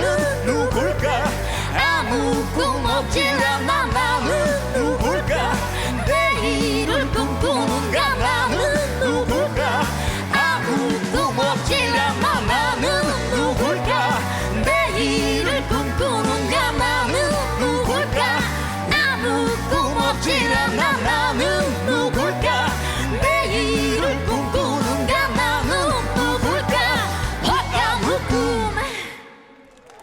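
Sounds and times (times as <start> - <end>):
live pop-rock band: 0.0 - 29.4
person singing: 0.0 - 29.4.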